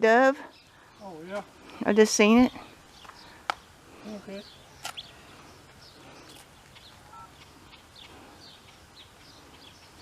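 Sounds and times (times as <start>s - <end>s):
faint outdoor hiss: 0.0s - 10.0s
small birds chirping: 0.0s - 10.0s.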